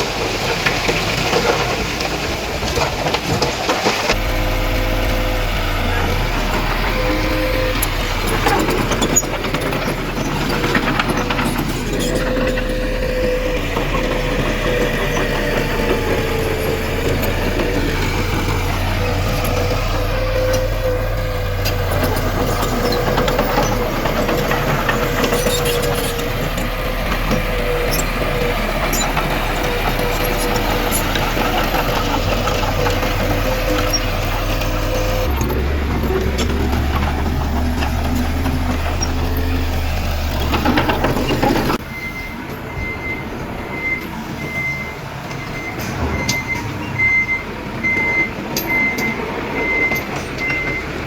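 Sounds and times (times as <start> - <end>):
diesel engine running: 0.0 - 51.0
machinery whine: 4.1 - 51.0.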